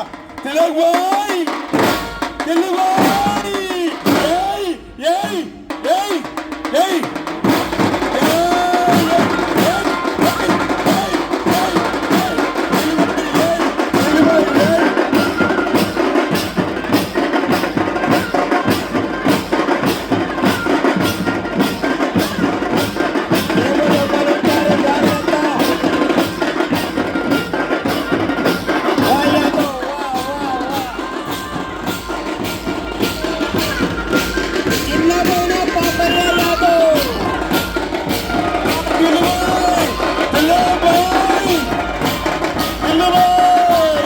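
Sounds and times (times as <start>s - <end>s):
fast steady drumbeat: 0.0s - 44.0s.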